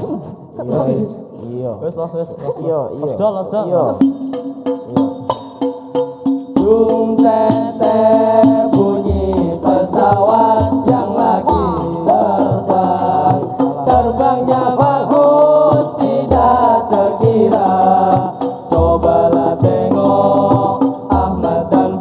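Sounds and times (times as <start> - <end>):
group singing in chorus: 0.0 - 1.4, 4.4 - 22.0
frame drums: 3.9 - 22.0.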